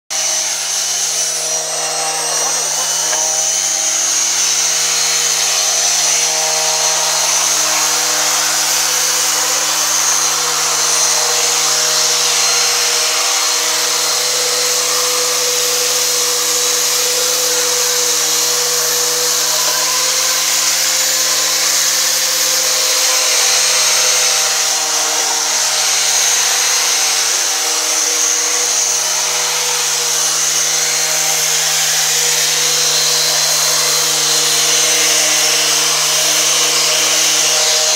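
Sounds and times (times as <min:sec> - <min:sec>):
electric palm sander running: 0:00.1 - 0:37.9.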